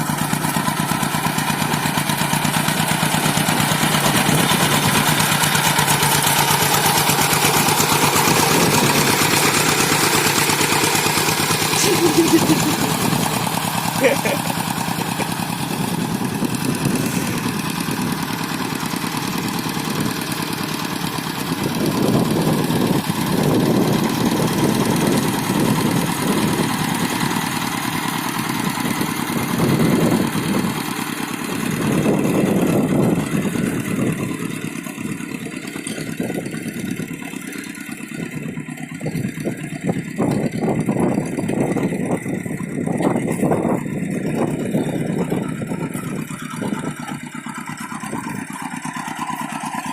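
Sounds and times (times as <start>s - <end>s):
hand tractor engine running: 0.0s - 49.9s.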